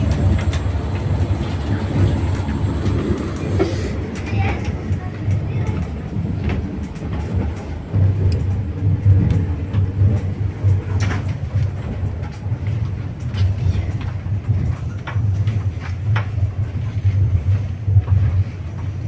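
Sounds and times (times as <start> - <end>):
train low rumble: 0.0 - 19.0
wheels clicking on rail joints: 0.0 - 19.0.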